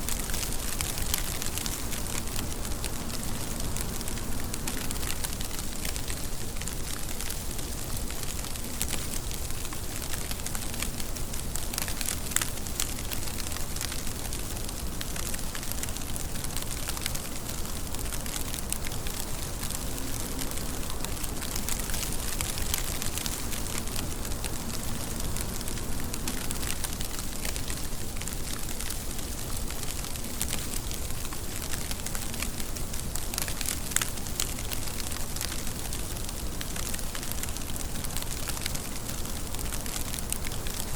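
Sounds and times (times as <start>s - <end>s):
close raindrop ticks: 0.0s - 40.9s
steady rain: 0.0s - 40.9s.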